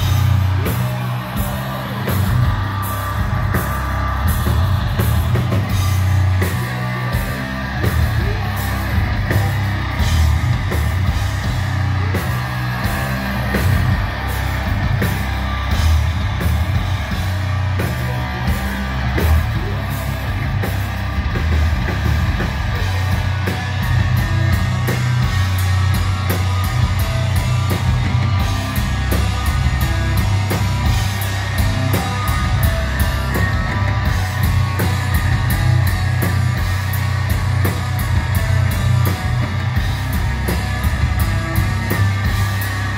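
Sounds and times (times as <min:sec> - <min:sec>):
distorted electric guitars and bass: 0:00.0 - 0:42.9
fast drums: 0:00.0 - 0:42.9.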